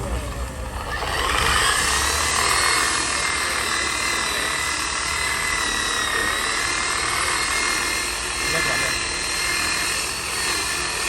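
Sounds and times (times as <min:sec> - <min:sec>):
electric rotary polisher whining: 0:00.0 - 0:11.0.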